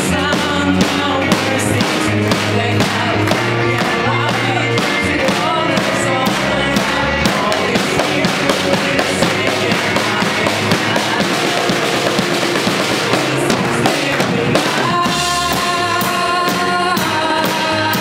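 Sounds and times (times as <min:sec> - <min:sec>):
rock band playing: 0:00.0 - 0:18.0
voices singing: 0:00.0 - 0:18.0.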